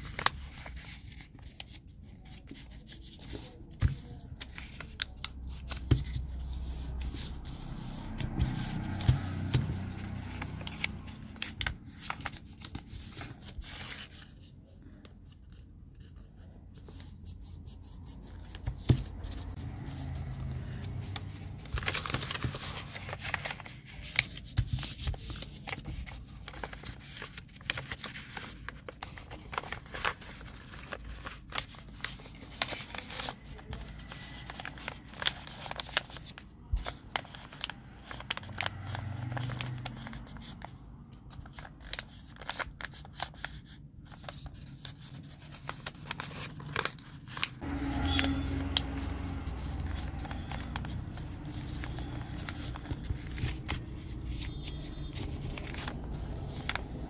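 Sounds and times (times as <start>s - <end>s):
paper being folded and creased: 0.0s - 57.0s.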